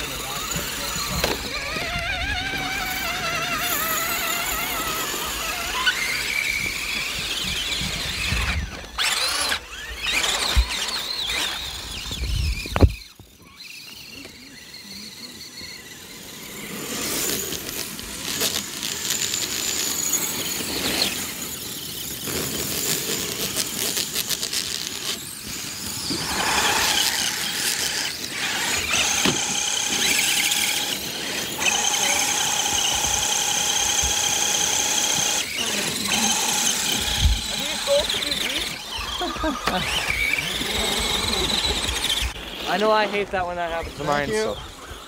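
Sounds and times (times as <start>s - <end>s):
rc truck motors whining: 0.0s - 45.0s.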